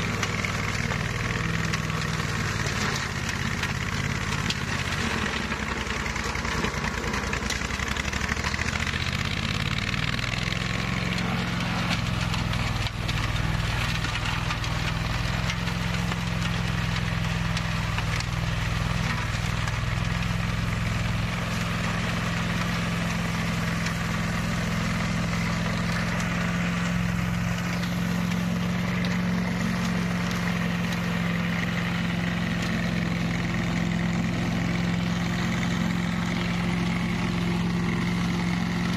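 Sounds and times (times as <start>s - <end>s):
grass mower running: 0.0s - 38.9s.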